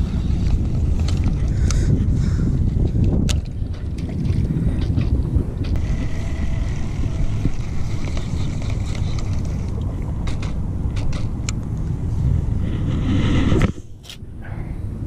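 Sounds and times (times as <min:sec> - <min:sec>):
wind across microphone: 0:00.0 - 0:15.0.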